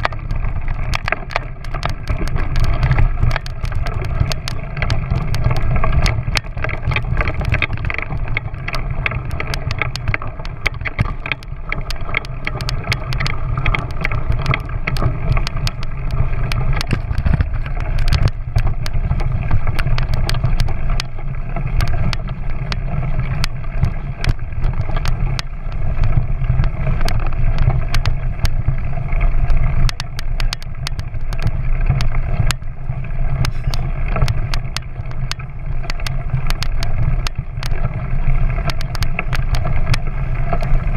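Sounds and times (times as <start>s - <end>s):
clicks and rattles from bumps: 0.0s - 40.9s
small motorcycle engine running: 0.0s - 40.9s.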